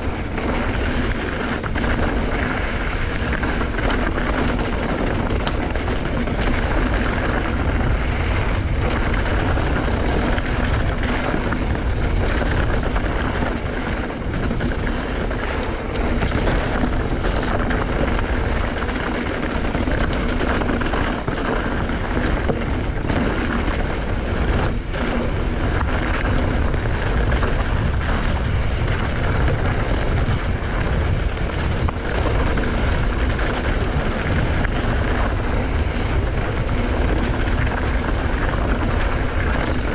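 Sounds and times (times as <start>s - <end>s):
bike rattling and clicking: 0.0s - 39.9s
bike tyres rumbling on dirt: 0.0s - 39.9s
wind rushing over microphone: 0.0s - 39.9s.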